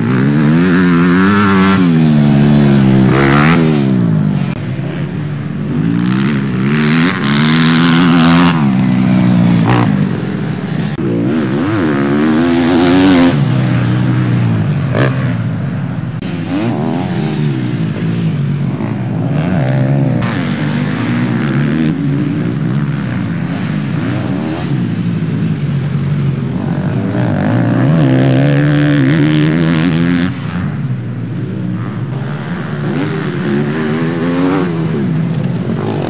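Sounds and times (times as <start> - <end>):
motocross bikes revving: 0.0 - 36.0.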